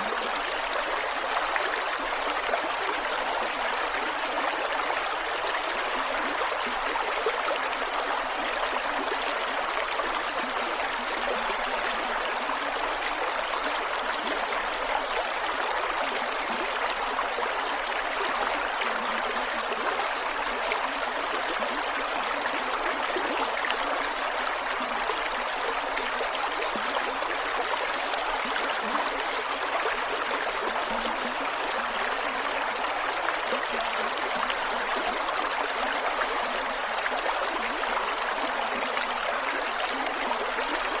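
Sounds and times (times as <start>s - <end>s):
creek flowing over rocks: 0.0s - 41.0s.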